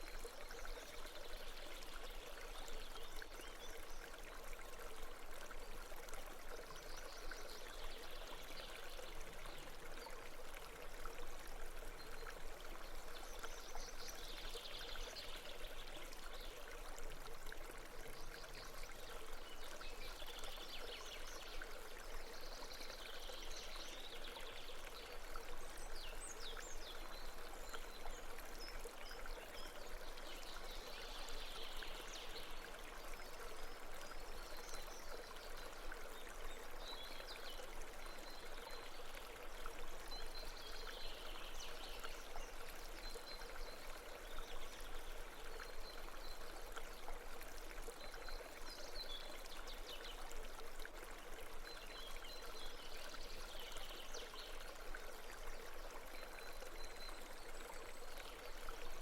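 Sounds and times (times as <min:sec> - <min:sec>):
babbling brook: 0:00.0 - 0:59.0.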